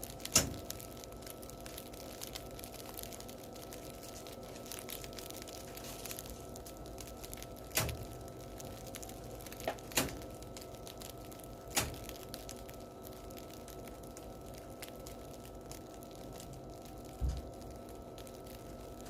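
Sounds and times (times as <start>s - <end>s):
bread crusts crackling: 0.0s - 19.0s.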